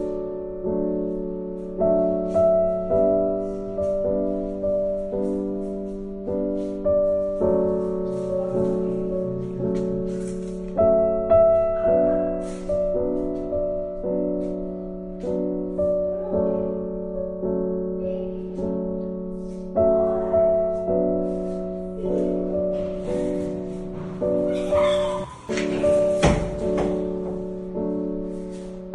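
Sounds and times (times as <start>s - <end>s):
slow calm piano melody: 0.0s - 28.9s.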